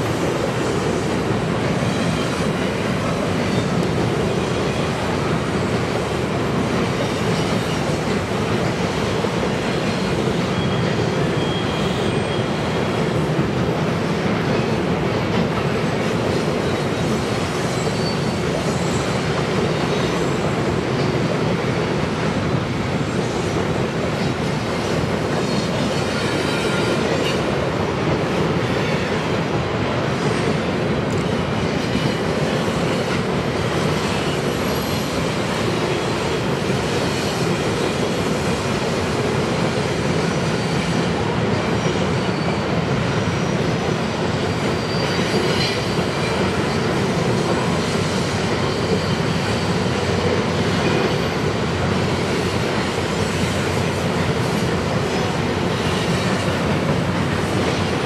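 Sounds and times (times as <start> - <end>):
freight train rumbling over bridge: 0.0 - 58.0.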